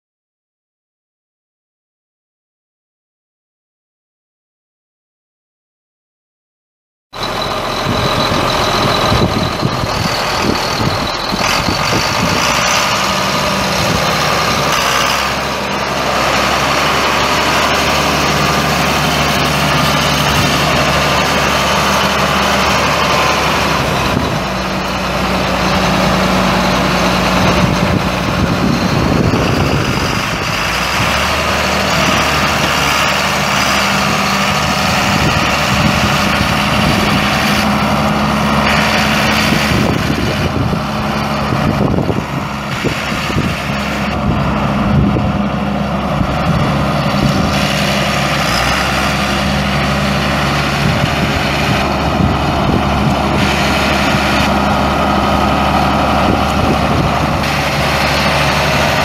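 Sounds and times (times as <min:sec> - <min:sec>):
tractor diesel engine idling: 0:07.2 - 0:59.0.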